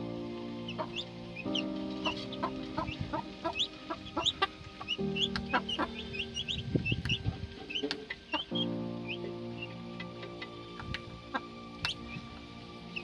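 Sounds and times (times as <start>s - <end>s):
background music sustained notes: 0.0s - 13.0s
chicks peeping: 0.6s - 13.0s
hen clucking: 0.7s - 10.6s, 11.2s - 12.0s.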